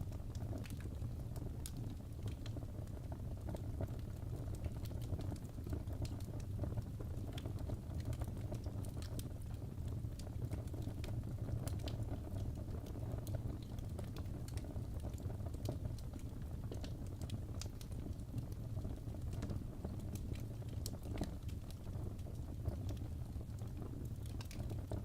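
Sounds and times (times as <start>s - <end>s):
fireplace crackling: 0.0s - 25.0s.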